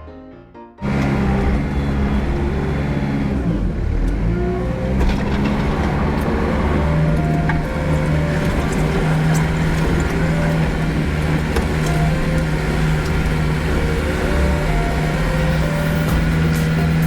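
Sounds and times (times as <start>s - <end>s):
tractor diesel engine running: 0.8s - 17.0s.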